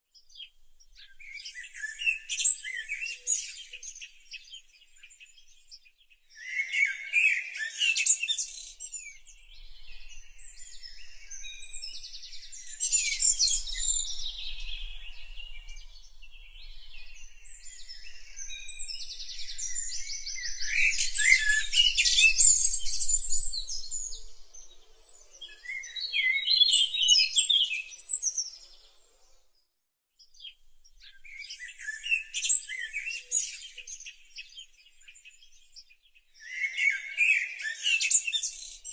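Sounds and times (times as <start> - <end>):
songbirds chirping and singing: 0.2 - 29.4, 30.2 - 38.9.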